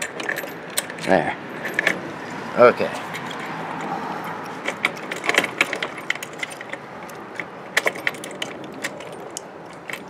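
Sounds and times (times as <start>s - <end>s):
metallic clicks of bolt and washers: 0.0s - 2.0s, 3.0s - 10.0s.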